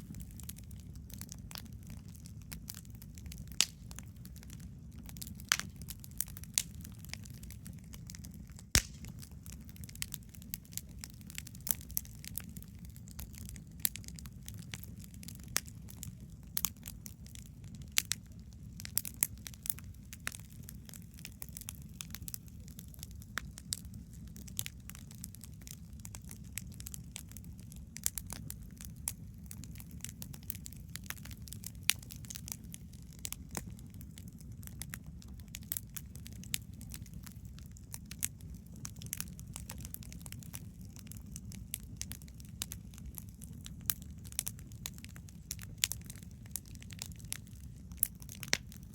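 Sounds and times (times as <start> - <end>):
campfire crackling: 0.0 - 48.9
low rumble of fire: 0.0 - 48.9.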